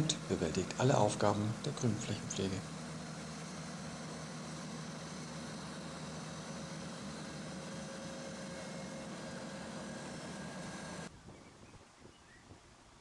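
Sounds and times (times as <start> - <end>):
tractor engine and flail mulcher: 0.0 - 11.1.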